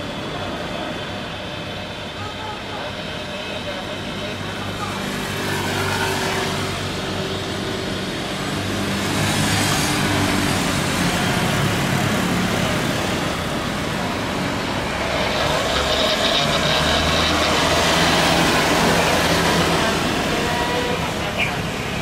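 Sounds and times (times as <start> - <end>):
high engine whine: 0.0 - 22.0
jet engines roaring: 0.0 - 22.0.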